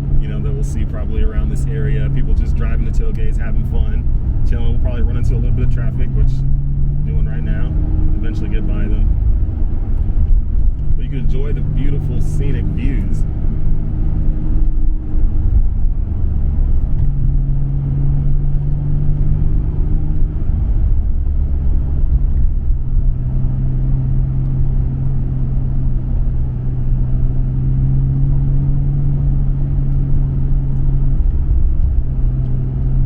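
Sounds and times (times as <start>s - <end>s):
car engine cruising drone: 0.0s - 33.0s.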